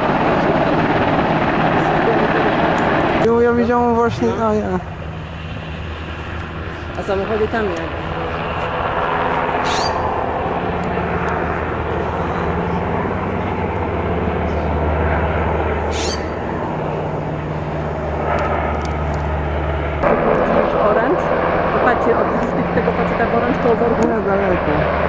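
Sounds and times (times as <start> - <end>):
broad rushing noise: 0.0 - 25.0
helicopter rotor drone: 0.0 - 25.0.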